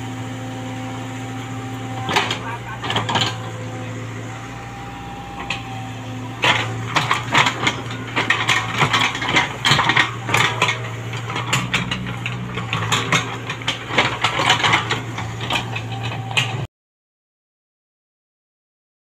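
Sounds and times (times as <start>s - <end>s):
diesel engine running: 0.0s - 16.7s.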